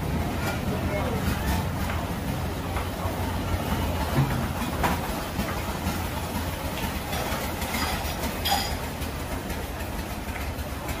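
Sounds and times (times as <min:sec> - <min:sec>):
market background rumble: 0:00.0 - 0:11.0.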